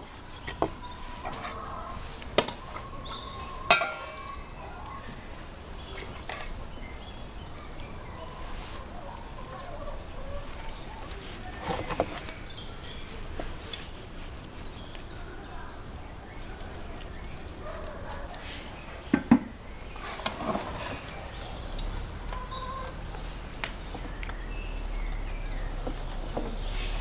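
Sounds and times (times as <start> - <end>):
faint bird calls: 0.0 - 19.2, 19.8 - 27.0.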